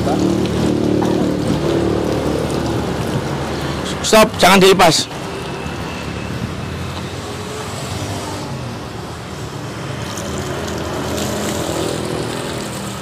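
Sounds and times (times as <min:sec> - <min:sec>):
water splashing onto ground: 0:00.0 - 0:04.5, 0:05.1 - 0:13.0.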